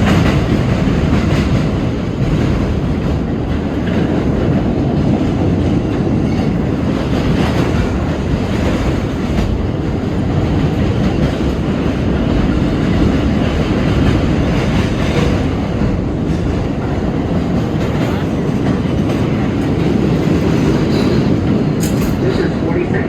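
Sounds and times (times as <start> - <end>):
train wheels clattering: 0.0 - 22.6
subway train wheels rumbling on rails: 0.0 - 23.0.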